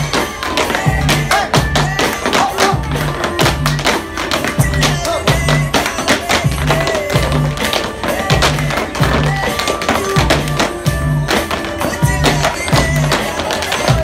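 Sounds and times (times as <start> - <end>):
music with bass beat: 0.0 - 14.0
tap shoes on plywood: 0.0 - 14.0.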